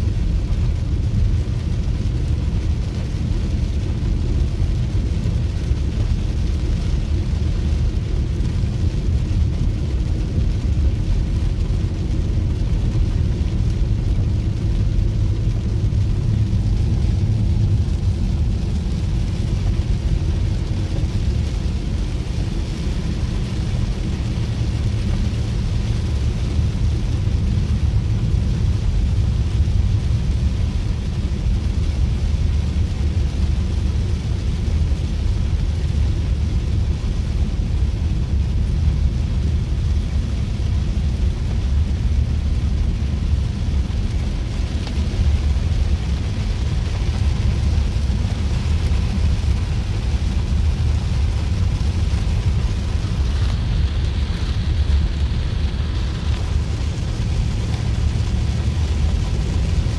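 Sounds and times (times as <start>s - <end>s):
car driving rumble: 0.0s - 59.9s
rain on wet road: 0.0s - 59.9s.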